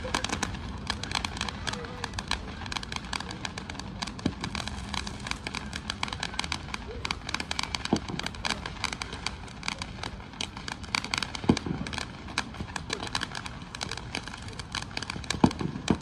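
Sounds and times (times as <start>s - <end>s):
distant fireworks booming: 0.0s - 16.0s
fireworks crackling: 0.0s - 16.0s.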